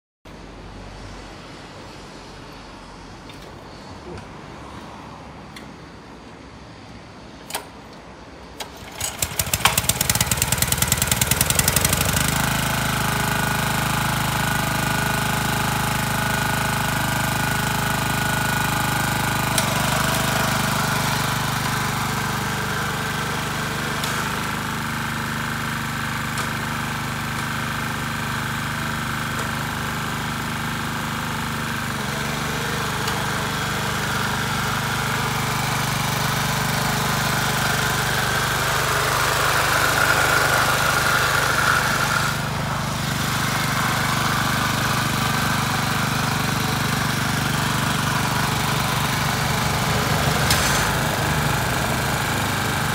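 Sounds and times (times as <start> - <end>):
tiller engine starting and running: 8.5 - 52.9.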